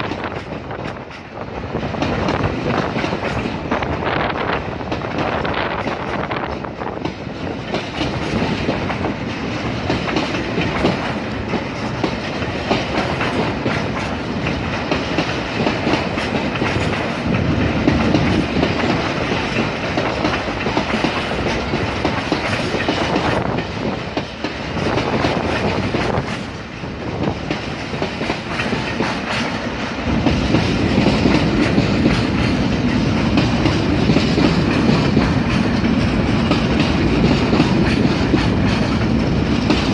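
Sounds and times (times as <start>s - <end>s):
train rolling on rails: 0.0s - 39.9s.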